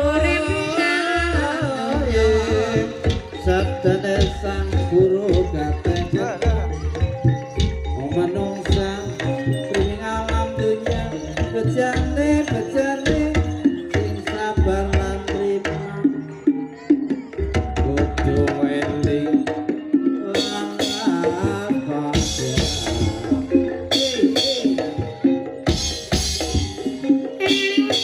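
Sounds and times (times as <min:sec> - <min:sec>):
pitched struck percussion notes: 0:00.0 - 0:28.0.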